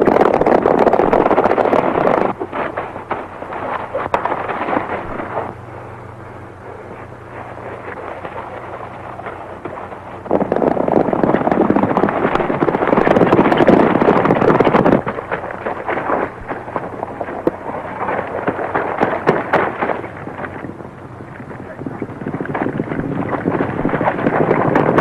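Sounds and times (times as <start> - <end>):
horses galloping on hard ground: 0.0 - 5.5, 7.3 - 25.0.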